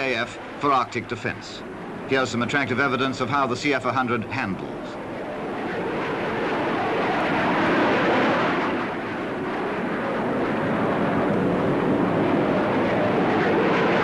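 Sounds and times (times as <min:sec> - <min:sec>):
jet fighter engine rush: 0:00.0 - 0:14.0.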